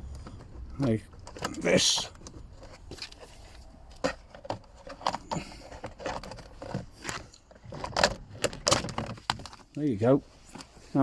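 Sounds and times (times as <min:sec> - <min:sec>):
plastic clicks and scrapes: 0:00.1 - 0:09.8.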